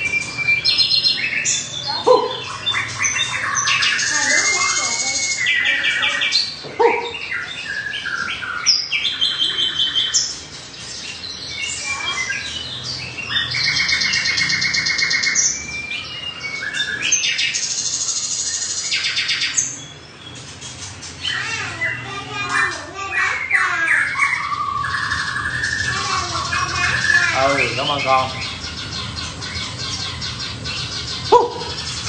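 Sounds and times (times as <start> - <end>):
songbirds whistling and trilling: 0.0 - 32.0.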